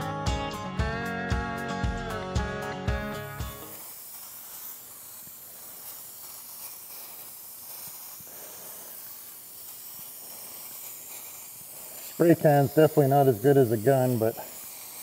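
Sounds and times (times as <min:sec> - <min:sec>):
aerosol spray can hissing: 0:03.0 - 0:15.0.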